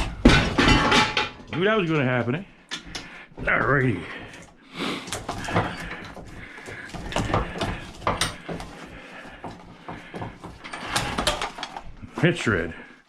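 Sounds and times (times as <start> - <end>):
metal parts knocking and clanking: 0.0 - 12.3.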